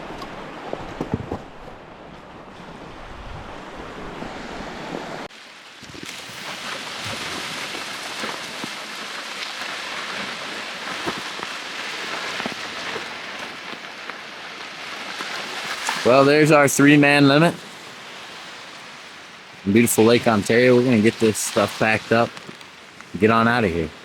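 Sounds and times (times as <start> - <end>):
lake waves washing on shore: 0.0 - 24.0.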